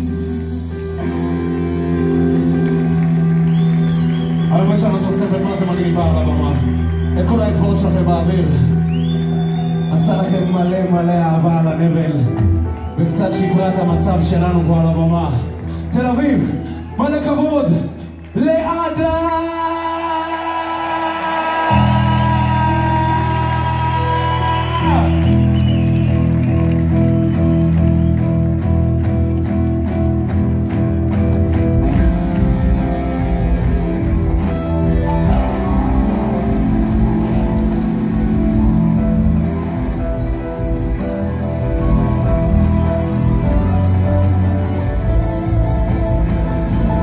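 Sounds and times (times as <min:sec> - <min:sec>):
live band music: 0:00.0 - 0:20.0, 0:20.7 - 0:47.0.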